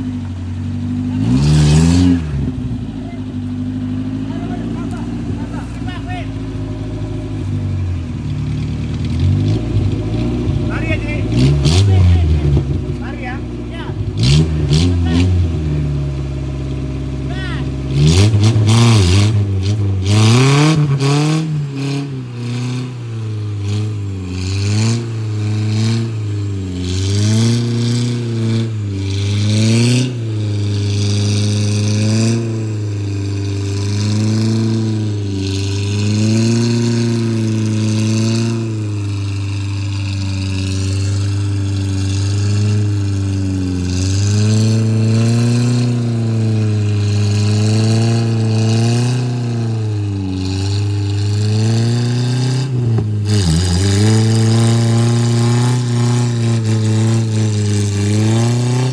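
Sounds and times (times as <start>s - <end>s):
vehicle engine revving: 0.0s - 58.9s.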